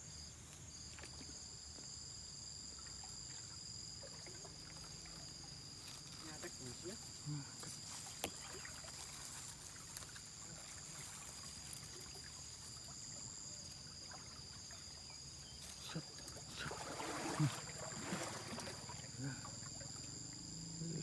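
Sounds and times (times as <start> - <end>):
faint outdoor hiss: 0.0 - 21.0
insects calling in high tones: 0.0 - 21.0.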